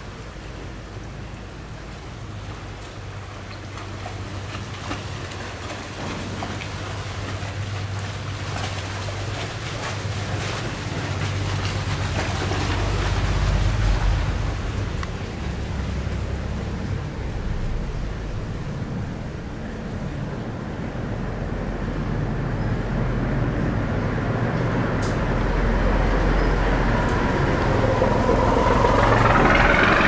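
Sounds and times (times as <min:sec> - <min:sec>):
rushing splashing water: 0:00.0 - 0:20.3, 0:24.2 - 0:30.0
boat engine humming: 0:00.0 - 0:30.0.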